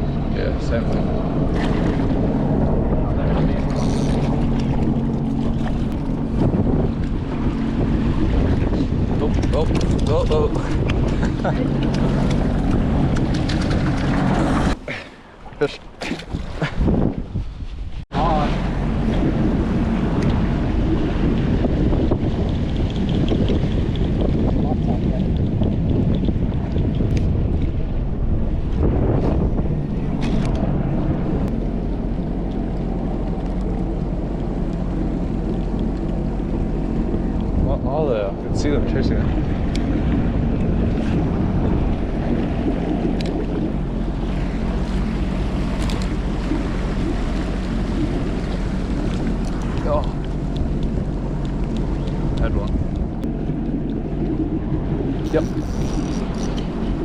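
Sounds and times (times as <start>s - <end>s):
jet ski engine running: 0.0s - 17.1s, 18.1s - 57.0s
water sloshing: 0.0s - 57.0s
wind buffeting microphone: 0.0s - 57.0s.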